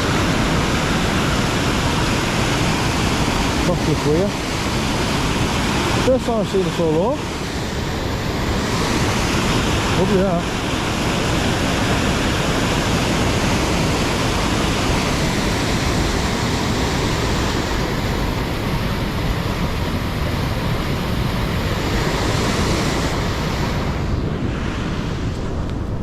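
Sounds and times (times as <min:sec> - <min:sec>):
river water pouring over weir: 0:00.0 - 0:25.4.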